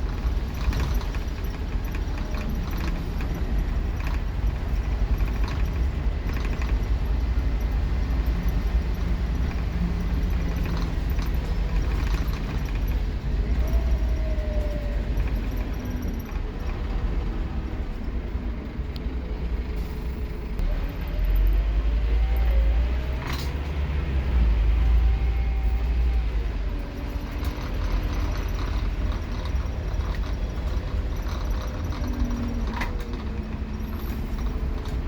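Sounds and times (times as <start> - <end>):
bus engine rumbling: 0.0 - 35.0
gear change whines: 0.0 - 35.0.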